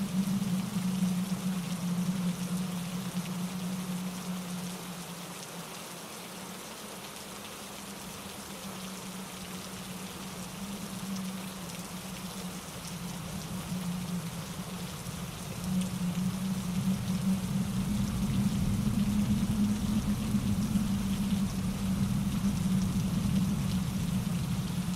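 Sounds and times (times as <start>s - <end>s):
steady rain: 0.0s - 24.9s
stream tumbling over rocks: 0.0s - 24.9s.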